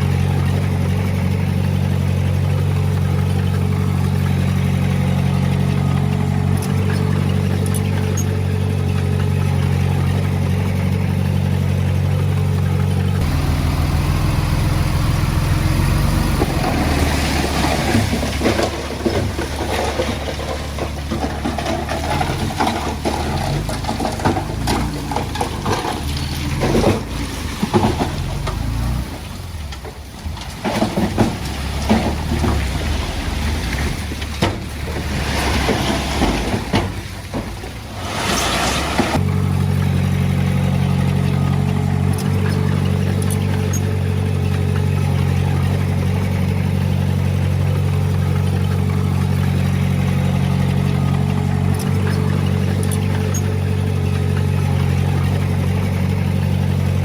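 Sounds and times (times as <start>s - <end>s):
heavy diesel engine running: 0.0s - 57.0s
machinery clanking and rattling: 0.0s - 57.0s.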